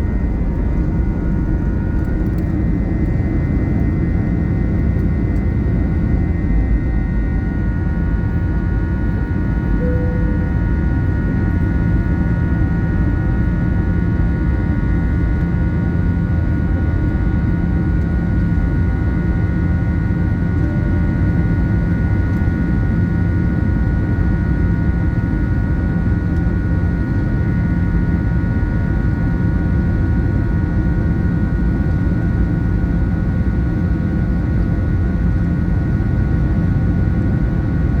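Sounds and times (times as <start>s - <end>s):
airplane engines at take-off power: 0.0s - 38.0s.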